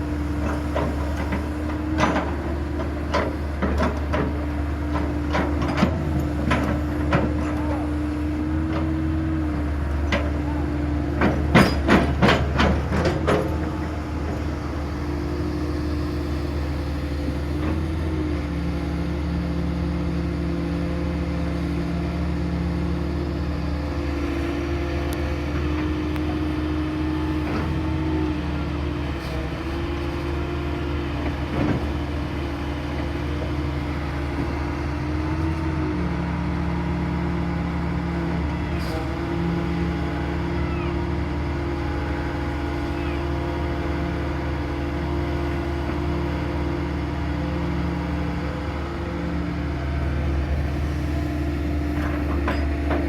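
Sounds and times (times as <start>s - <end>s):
excavator diesel engine hum: 0.0s - 53.0s.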